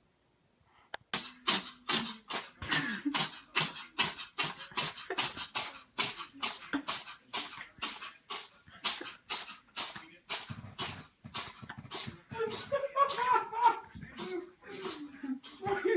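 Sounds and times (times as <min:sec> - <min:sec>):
pet sneezing: 0:01.2 - 0:13.3, 0:14.2 - 0:15.8.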